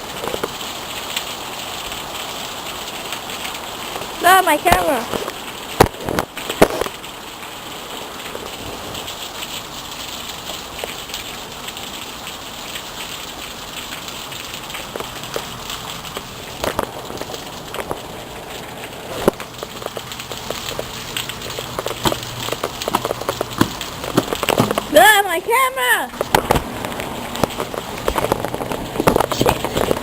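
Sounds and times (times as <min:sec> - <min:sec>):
rain pattering: 0:00.0 - 0:30.0
raindrops hitting: 0:00.0 - 0:30.0.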